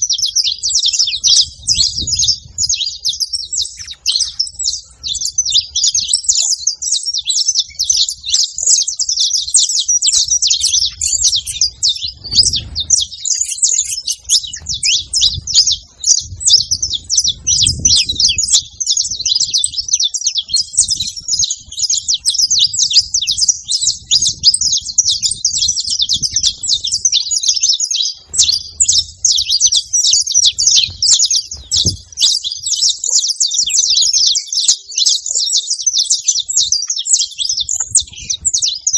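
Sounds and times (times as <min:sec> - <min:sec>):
finch chirping and singing: 0:00.0 - 0:38.9.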